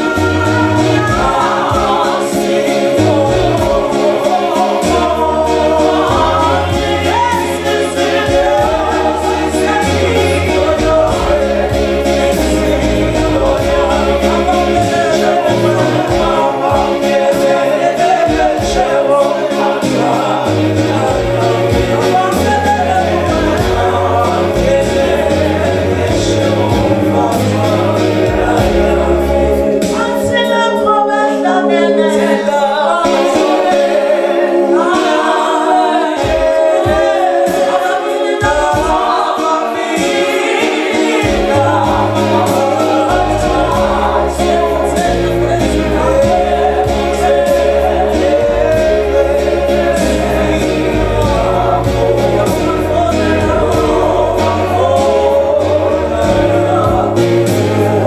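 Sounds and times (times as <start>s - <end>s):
low bass accompaniment: 0.0s - 30.3s, 41.1s - 58.0s
women singing gospel in harmony: 0.0s - 58.0s.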